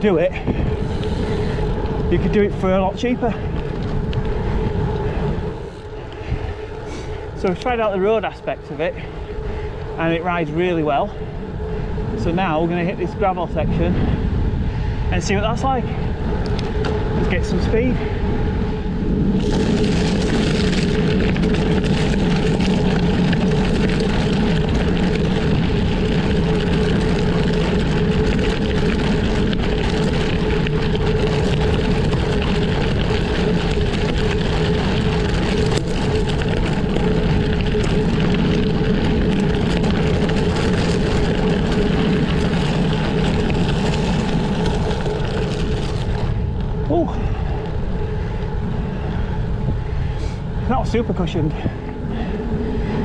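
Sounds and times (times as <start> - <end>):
bike tyres rolling on gravel: 0.0 - 53.0.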